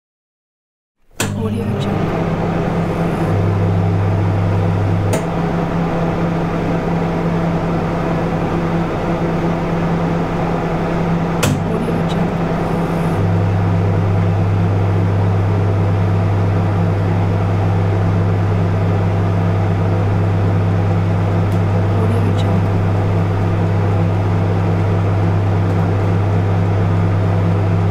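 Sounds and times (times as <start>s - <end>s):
microwave oven whirring: 1.0s - 27.9s.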